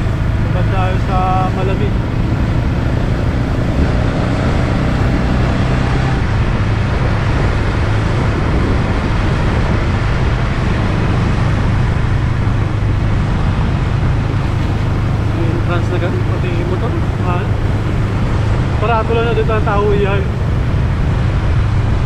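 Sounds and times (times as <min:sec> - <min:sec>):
motorcycle engine running: 0:00.0 - 0:22.0
road noise: 0:00.0 - 0:22.0
wind noise: 0:00.0 - 0:22.0.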